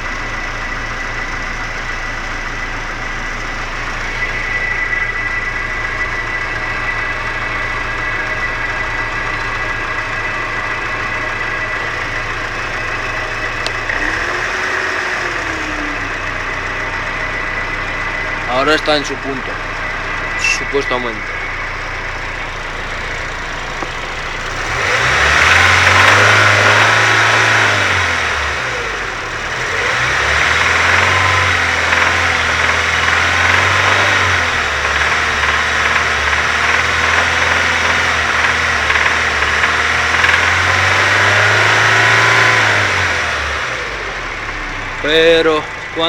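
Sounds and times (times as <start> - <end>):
abnormal engine noise: 0.0 - 46.0
car engine revving: 0.0 - 46.0.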